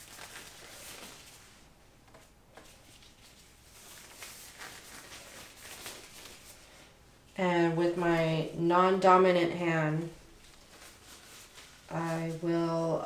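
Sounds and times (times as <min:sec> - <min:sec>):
disposable gloves rustling: 0:00.0 - 0:13.0.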